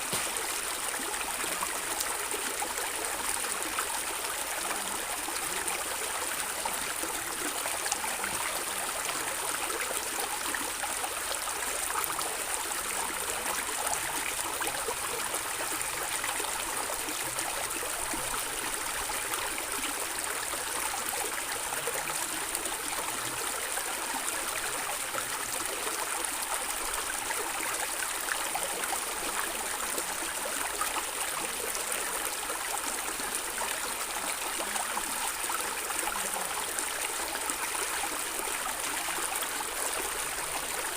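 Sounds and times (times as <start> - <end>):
stream gurgling over stones: 0.0 - 40.9.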